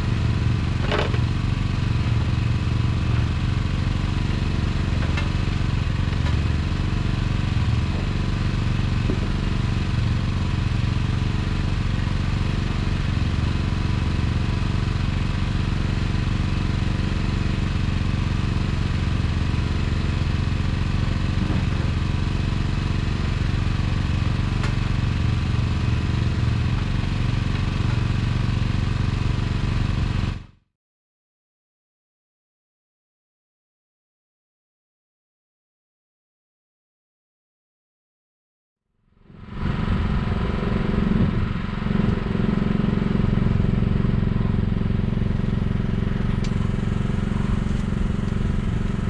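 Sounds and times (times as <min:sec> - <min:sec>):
small engine running: 0:00.0 - 0:30.5, 0:39.2 - 0:49.0.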